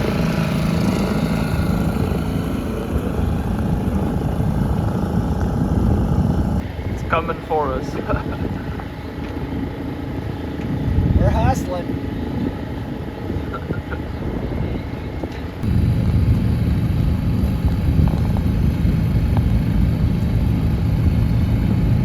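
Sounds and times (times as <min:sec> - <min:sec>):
boat motor rumbling: 0:00.0 - 0:22.0
water noise: 0:00.0 - 0:22.0
wind: 0:00.0 - 0:22.0.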